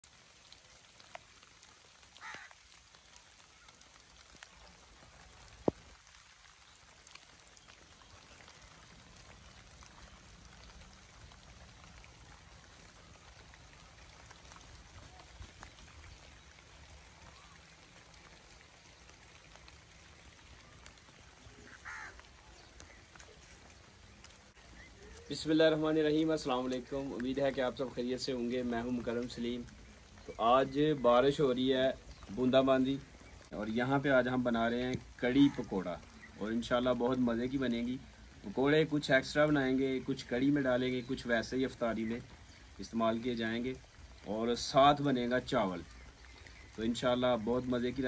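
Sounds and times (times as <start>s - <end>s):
raindrops ticking: 0.0s - 48.0s.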